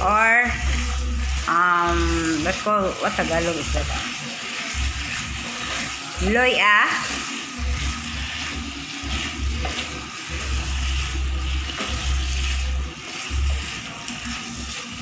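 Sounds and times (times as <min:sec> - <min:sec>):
pork sizzling in a pan: 0:00.0 - 0:15.0
wooden spatula stirring: 0:00.4 - 0:15.0.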